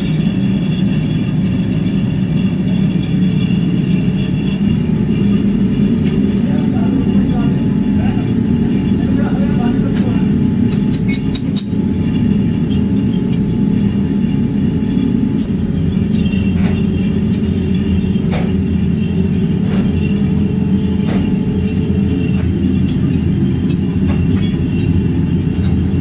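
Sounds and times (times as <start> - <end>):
workshop machinery rumbling: 0.0 - 26.0.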